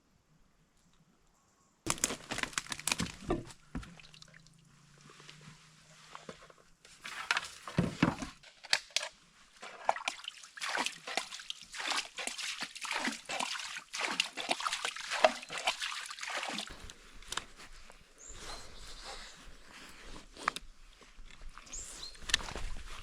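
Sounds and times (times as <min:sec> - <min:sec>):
water splashing and sloshing: 0:01.9 - 0:23.0.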